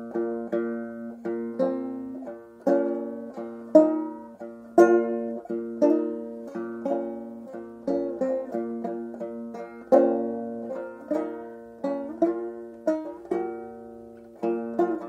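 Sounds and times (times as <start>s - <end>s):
plucked banjo melody: 0.0s - 15.0s.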